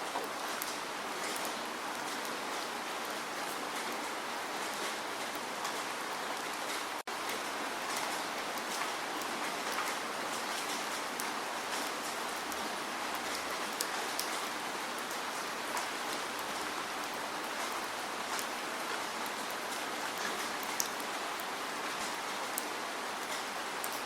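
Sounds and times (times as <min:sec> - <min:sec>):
steady rain hiss: 0:00.0 - 0:24.0
raindrops ticking on a surface: 0:00.1 - 0:24.0.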